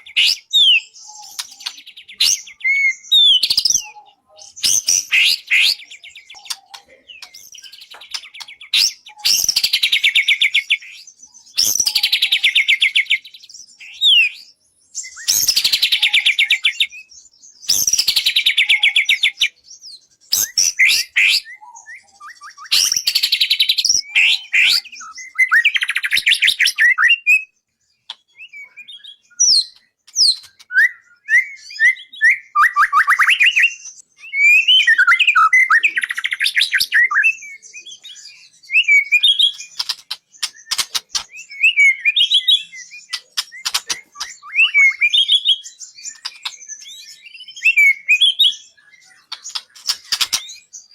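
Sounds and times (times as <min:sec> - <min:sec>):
songbird singing rattling phrases: 0:00.0 - 0:50.9
whistled bird notes: 0:00.0 - 0:50.9.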